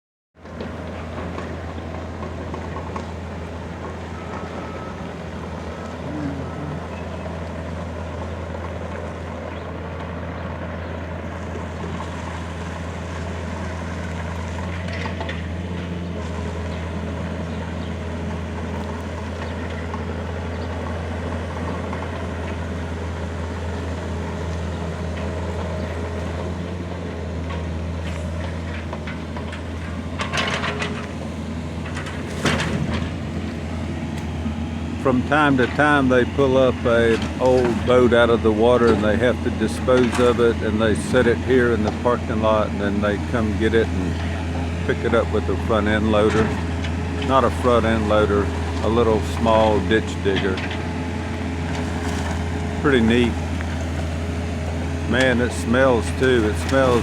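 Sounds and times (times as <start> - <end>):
excavator engine running: 0.4 - 57.0.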